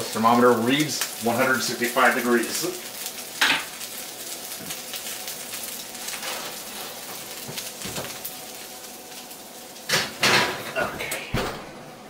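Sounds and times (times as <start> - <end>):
frying pan sizzling hiss: 0.0 - 12.0.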